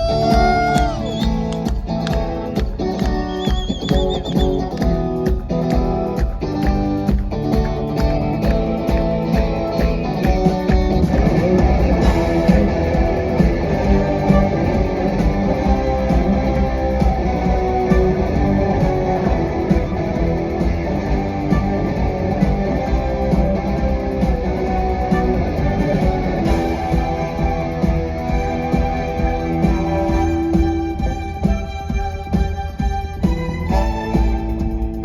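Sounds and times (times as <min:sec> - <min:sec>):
electric guitar: 0:00.0 - 0:35.0
live rock band playing: 0:00.0 - 0:35.0.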